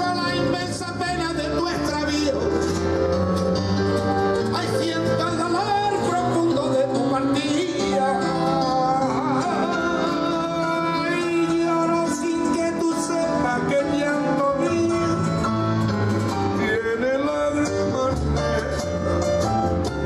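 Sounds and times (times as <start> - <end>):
song with voice and guitar: 0.0 - 20.0.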